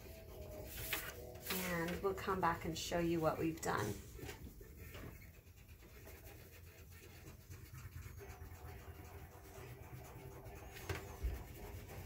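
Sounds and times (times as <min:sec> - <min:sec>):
crayon rubbing on paper: 0:00.0 - 0:12.0.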